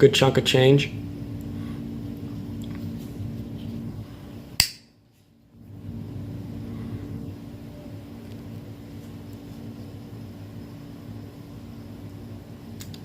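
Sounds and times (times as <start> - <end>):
faint constant tone: 0.0 - 12.8
low room hum: 0.0 - 13.0.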